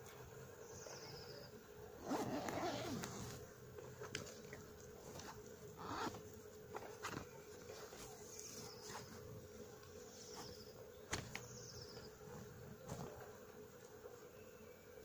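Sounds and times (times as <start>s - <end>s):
steady faint buzz: 0.0s - 15.0s.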